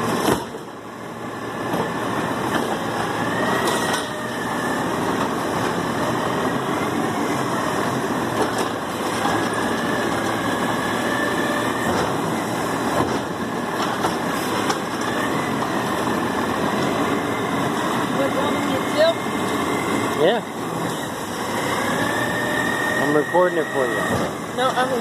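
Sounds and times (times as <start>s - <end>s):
garbage truck engine running: 0.0s - 25.0s.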